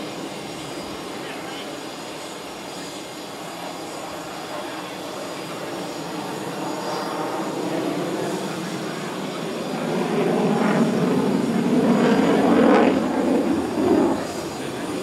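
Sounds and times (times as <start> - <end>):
fighter jet noise overhead: 0.0 - 15.0.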